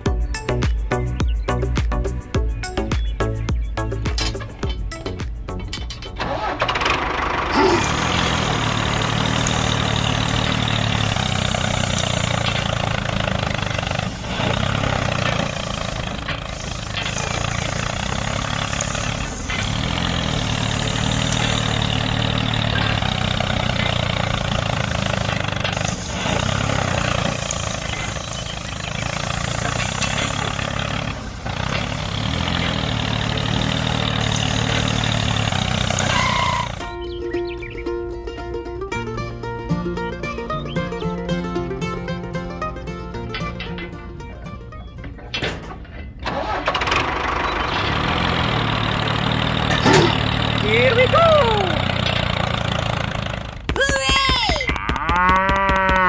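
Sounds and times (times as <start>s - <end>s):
heavy diesel machine engine: 0.0s - 54.4s.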